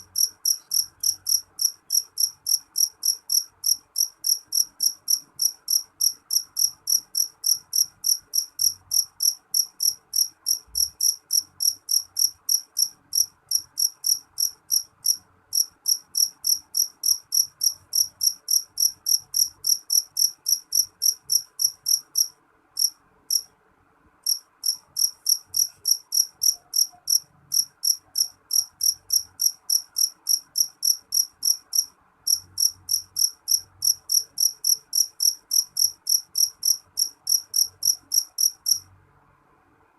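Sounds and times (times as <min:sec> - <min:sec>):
cricket chirping: 0:00.0 - 0:23.5, 0:24.2 - 0:38.9.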